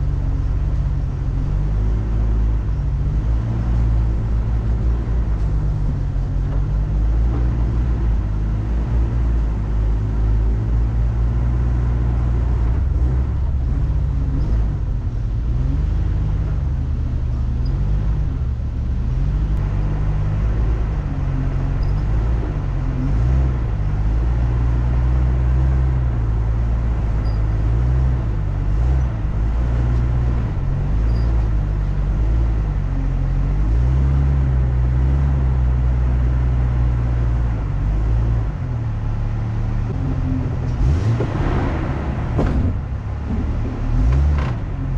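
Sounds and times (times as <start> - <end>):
vehicle engine running: 0.0 - 44.9
vehicle rumble and rattle: 0.0 - 44.9.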